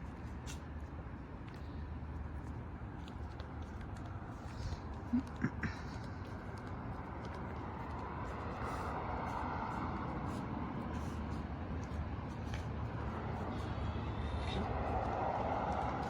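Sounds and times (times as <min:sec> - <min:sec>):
vehicle interior rumble: 0:01.2 - 0:16.0.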